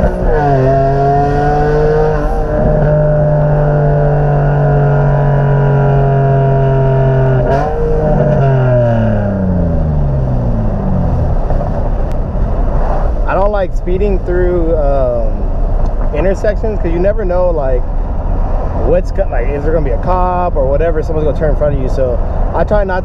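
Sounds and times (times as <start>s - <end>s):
car engine accelerating: 0.0s - 20.6s
car engine slowing: 0.0s - 23.0s.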